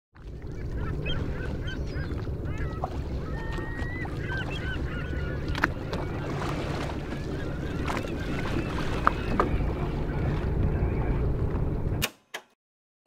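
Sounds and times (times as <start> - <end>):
gulls calling: 0.2 - 12.0
steady low rumble: 0.2 - 12.0.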